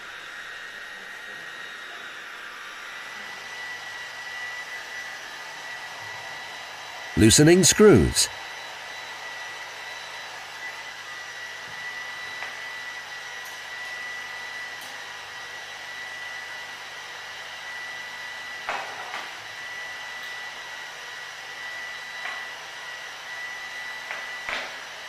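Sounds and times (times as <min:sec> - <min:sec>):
hot-air tool fan hiss and whine: 0:00.0 - 0:07.1, 0:08.5 - 0:25.0.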